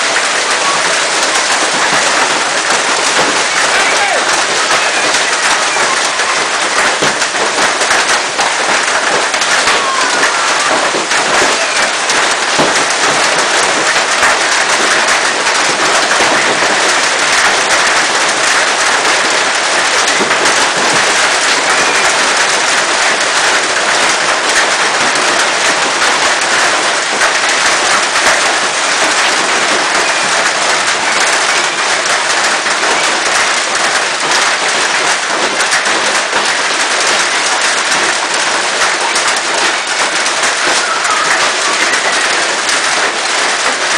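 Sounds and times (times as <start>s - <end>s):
hailstones clattering: 0.0s - 43.9s.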